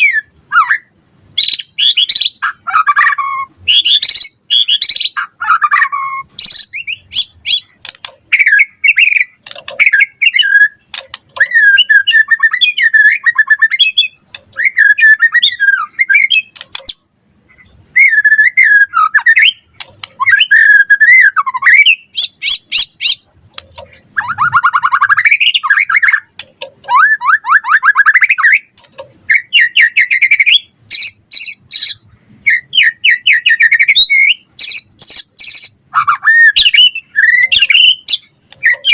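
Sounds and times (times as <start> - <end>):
bird singing whistled phrases: 0.0 - 7.7, 8.3 - 16.6, 17.9 - 23.2, 24.2 - 28.7, 29.3 - 38.9.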